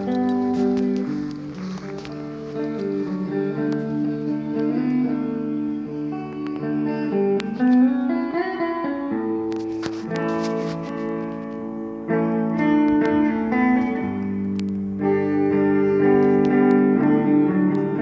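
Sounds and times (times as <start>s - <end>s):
plucked guitar chords: 0.0s - 18.0s.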